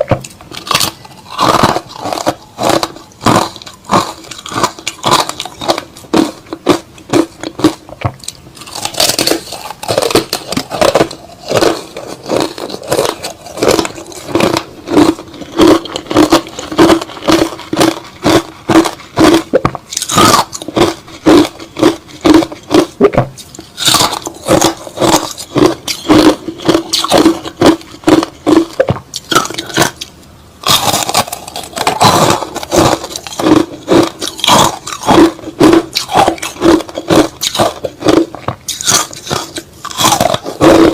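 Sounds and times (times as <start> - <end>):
chewing crushed ice: 0.1 - 40.9.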